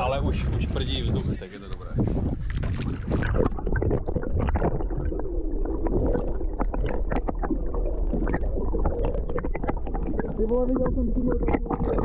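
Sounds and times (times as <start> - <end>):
underwater clicks and crackles: 0.0 - 12.0
underwater low rumble: 0.0 - 12.0.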